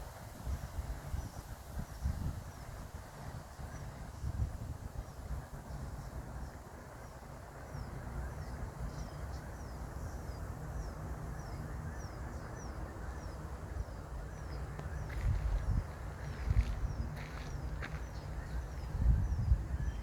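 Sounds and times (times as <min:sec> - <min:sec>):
low rumble of wind or traffic: 0:00.0 - 0:20.0.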